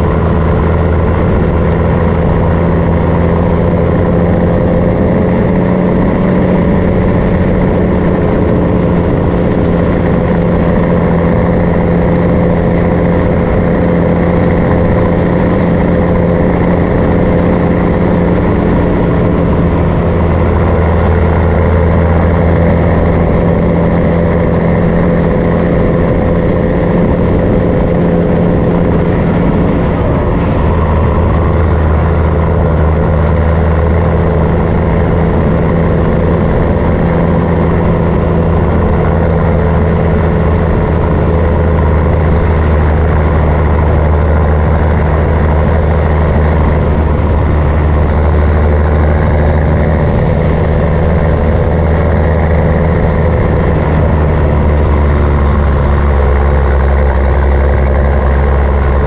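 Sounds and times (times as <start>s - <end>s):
truck diesel engine running: 0.0s - 59.0s.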